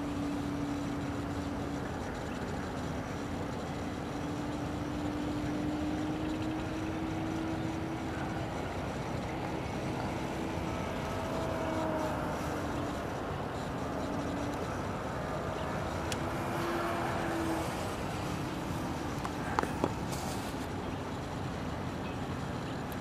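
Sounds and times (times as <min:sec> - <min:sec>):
model airplane motor humming: 0:00.0 - 0:23.0.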